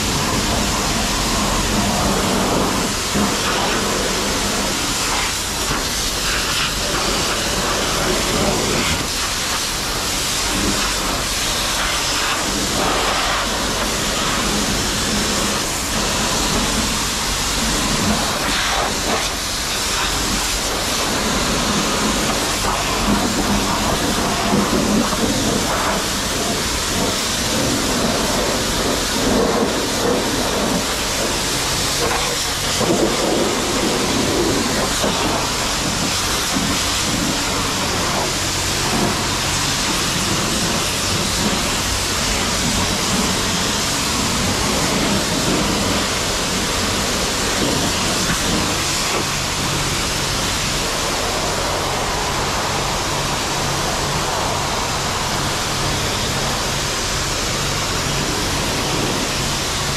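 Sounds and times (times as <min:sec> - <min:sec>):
pressure washer spray hiss: 0:00.0 - 0:59.9.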